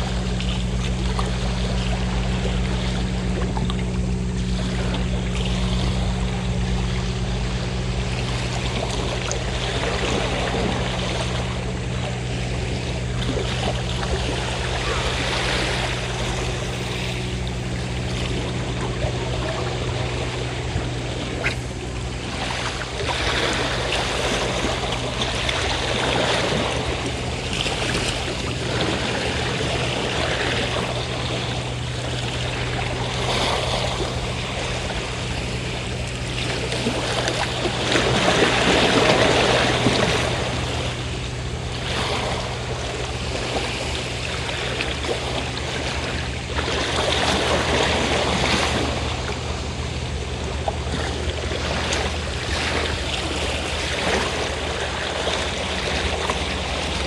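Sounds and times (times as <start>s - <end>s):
boat engine drone: 0.0s - 57.0s
sea waves washing ashore: 0.0s - 57.0s.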